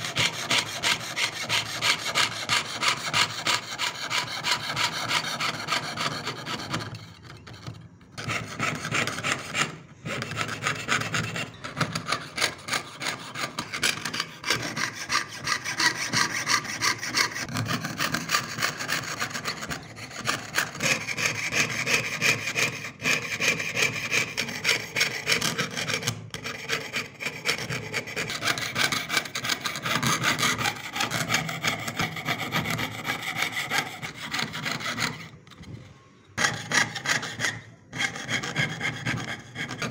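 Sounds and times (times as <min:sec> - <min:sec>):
fine saw rasping on metal: 0:00.0 - 0:35.4, 0:36.4 - 0:39.9.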